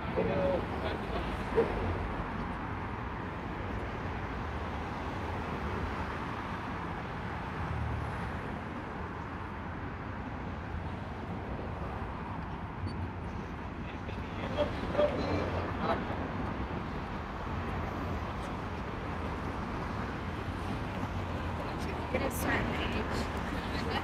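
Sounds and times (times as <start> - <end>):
car traffic hum: 0.0 - 24.0.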